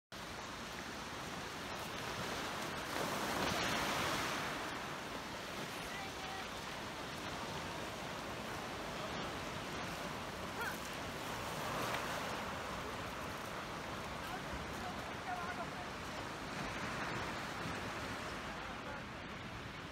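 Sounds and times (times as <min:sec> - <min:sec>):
waves washing on pebble beach: 0:00.2 - 0:19.9.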